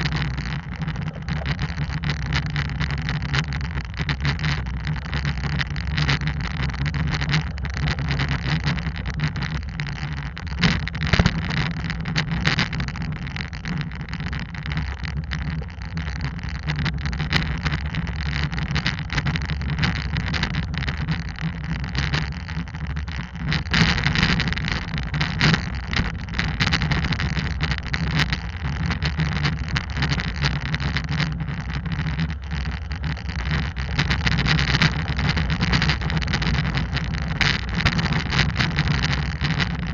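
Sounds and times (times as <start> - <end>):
small clicks and knocks: 0.0 - 39.9
wind on microphone: 0.0 - 39.9.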